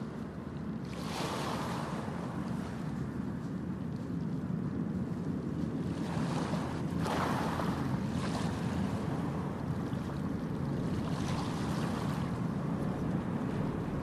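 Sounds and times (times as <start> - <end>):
ship engines low rumble: 0.0 - 14.0
wind on microphone: 0.0 - 14.0.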